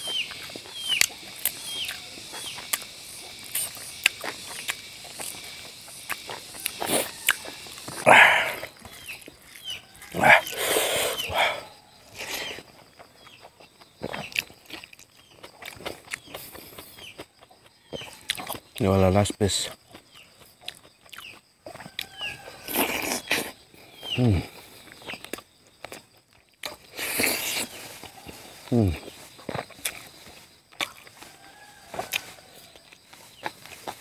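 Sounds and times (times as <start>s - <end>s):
wet chewing and smacking: 0.0s - 18.8s, 19.6s - 34.0s.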